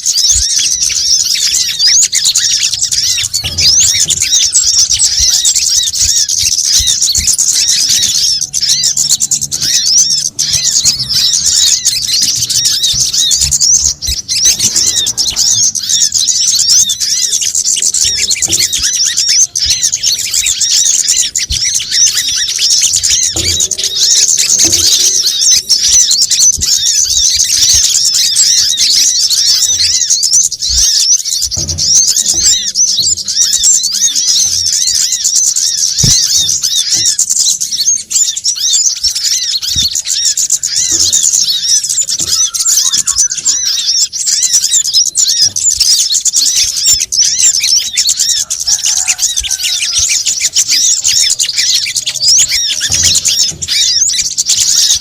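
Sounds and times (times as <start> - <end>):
sunbirds chirping and twittering: 0.0 - 55.0.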